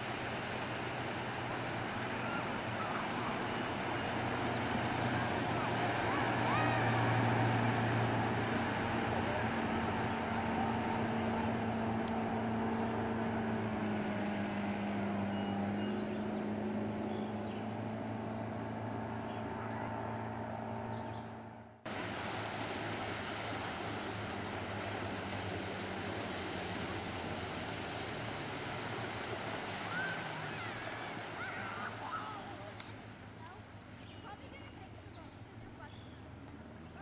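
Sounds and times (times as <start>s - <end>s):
water spray and wake hiss: 0.0s - 20.4s, 21.9s - 37.0s
motorboat engine drone: 0.0s - 37.0s.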